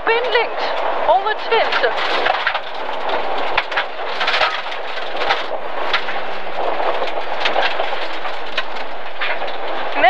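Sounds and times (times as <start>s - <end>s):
engine tyre and road noise: 0.0s - 10.0s
knocks and rattles from bumps: 1.1s - 10.0s.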